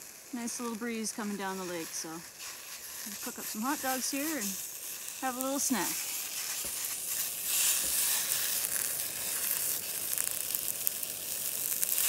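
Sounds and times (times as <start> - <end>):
hot dogs sizzling in a pan: 0.0 - 12.0.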